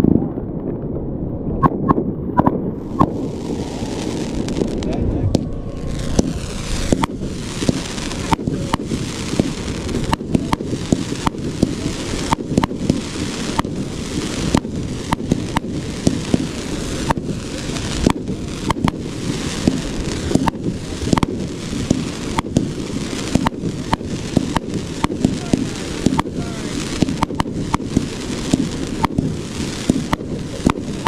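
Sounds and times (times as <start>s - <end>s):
firework crackling: 0.0s - 31.0s
firework shots bursting: 1.6s - 31.0s.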